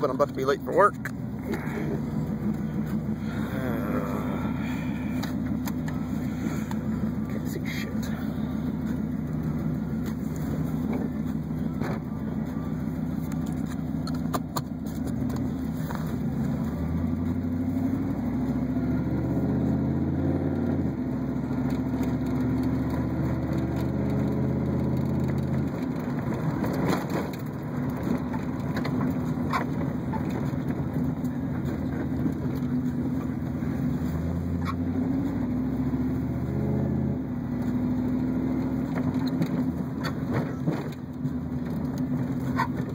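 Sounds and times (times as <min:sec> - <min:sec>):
car engine accelerating and shifting: 0:00.0 - 0:42.9.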